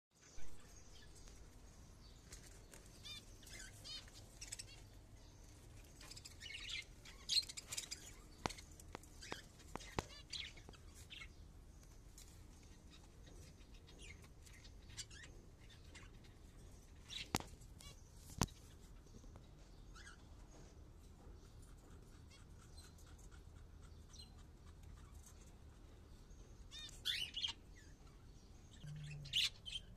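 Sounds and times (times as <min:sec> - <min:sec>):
cockatiels chirping and trilling: 0:02.3 - 0:05.0, 0:05.8 - 0:11.3, 0:12.2 - 0:19.1, 0:19.9 - 0:29.9.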